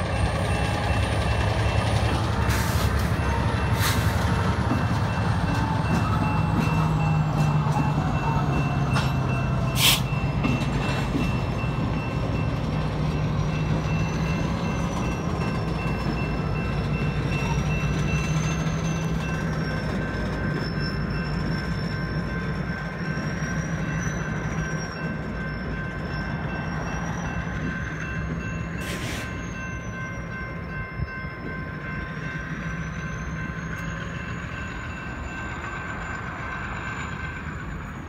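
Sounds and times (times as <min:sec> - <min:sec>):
diesel locomotive running: 0:00.0 - 0:38.0
high wheel squeal: 0:00.0 - 0:38.0.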